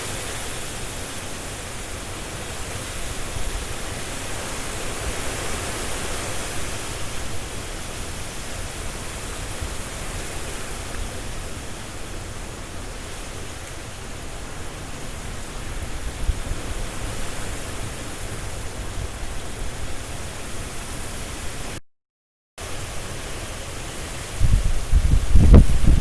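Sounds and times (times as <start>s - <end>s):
leaves rustling: 0.0s - 21.8s, 22.6s - 26.0s
wind gusting through trees: 0.0s - 21.8s, 22.6s - 26.0s.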